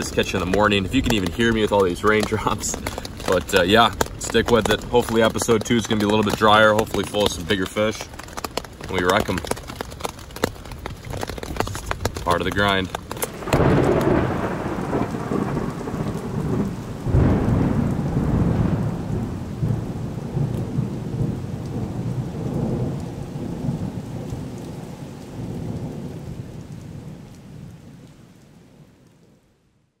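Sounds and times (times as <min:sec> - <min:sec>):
thunder rumbling: 0:00.0 - 0:28.0
rain falling on a tent: 0:00.0 - 0:30.0.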